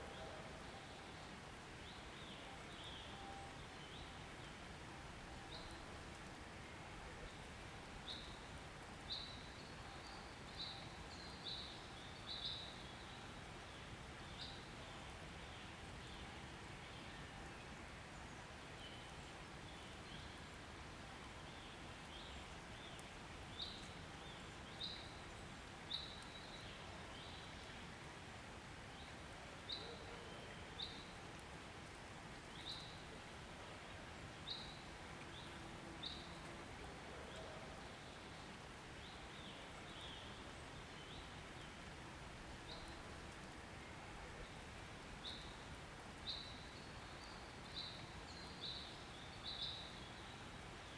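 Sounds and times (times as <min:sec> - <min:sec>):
faint outdoor hiss: 0:00.0 - 0:50.9.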